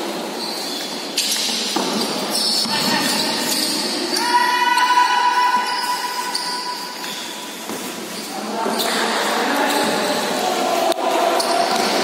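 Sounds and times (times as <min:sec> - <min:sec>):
players' voices: 0:02.3 - 0:12.0.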